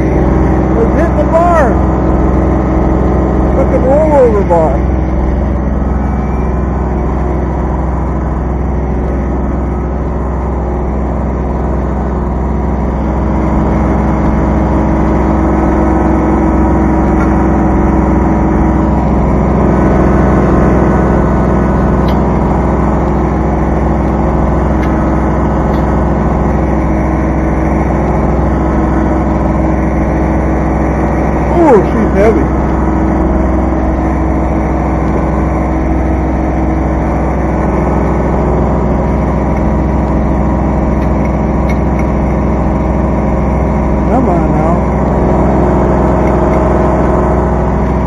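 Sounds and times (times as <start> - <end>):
diesel tractor engine running: 0.0 - 48.0.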